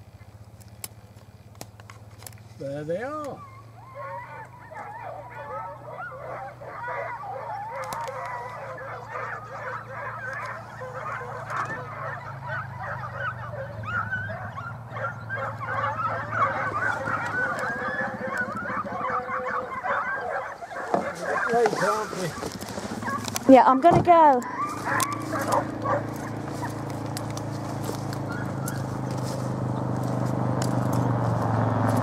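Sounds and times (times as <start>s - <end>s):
hounds yelping and baying: 2.0s - 32.0s.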